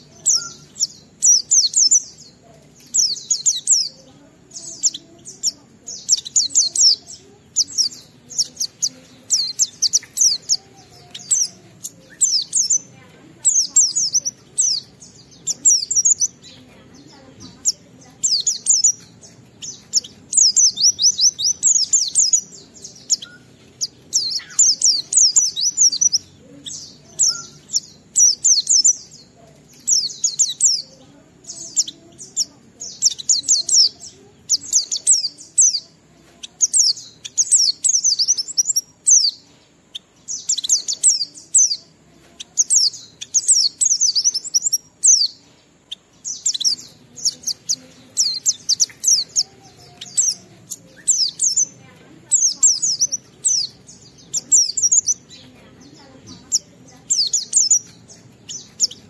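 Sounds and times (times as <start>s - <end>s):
bird twittering song: 0.0s - 59.0s.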